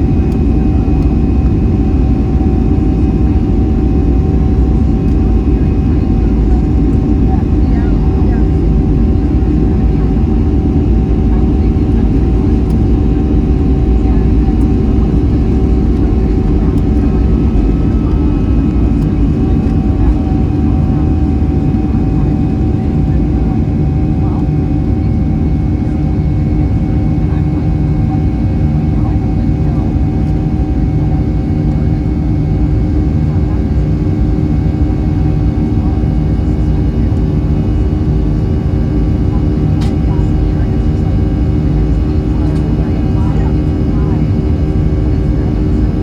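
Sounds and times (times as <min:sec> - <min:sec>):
faint jet engine whine: 0:00.0 - 0:46.0
jet engine rumble in cabin: 0:00.0 - 0:46.0.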